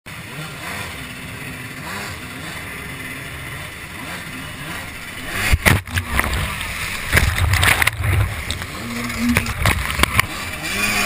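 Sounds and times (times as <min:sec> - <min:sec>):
jet ski engine revving: 0:00.1 - 0:11.0.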